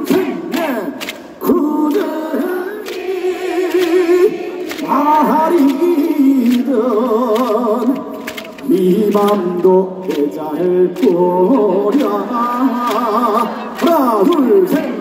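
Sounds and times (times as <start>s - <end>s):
man singing unaccompanied: 0.0s - 2.9s, 3.5s - 15.0s.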